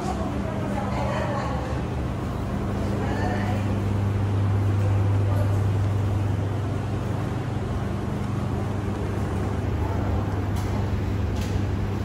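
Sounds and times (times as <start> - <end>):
washers and dryers humming: 0.0 - 12.0.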